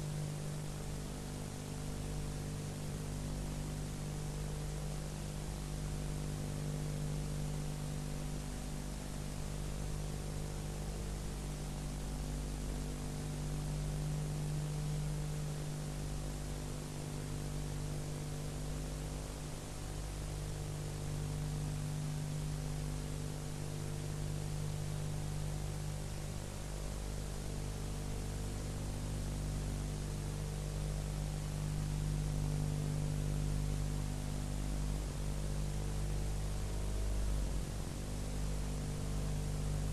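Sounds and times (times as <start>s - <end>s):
low electrical hum: 0.0s - 39.9s
steady tape hiss: 0.0s - 39.9s.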